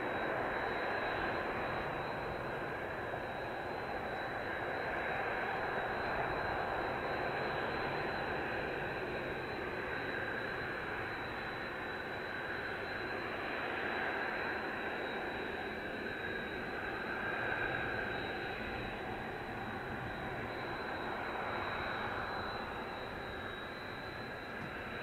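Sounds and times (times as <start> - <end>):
jet engines idling with whine: 0.0 - 25.0.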